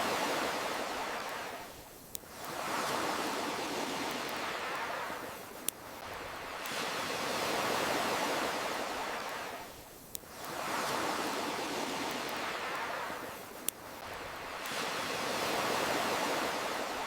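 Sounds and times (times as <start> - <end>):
campfire crackle: 0.0 - 17.0
ocean waves washing: 0.0 - 17.0.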